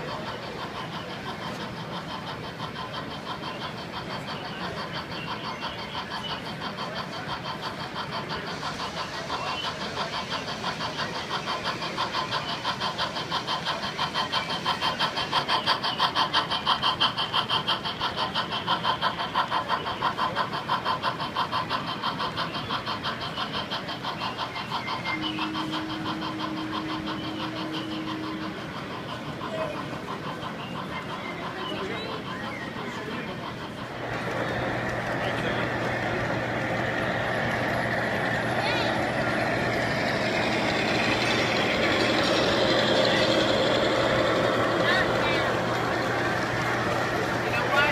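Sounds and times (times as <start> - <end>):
steam locomotive chuffing: 0.0 - 47.9.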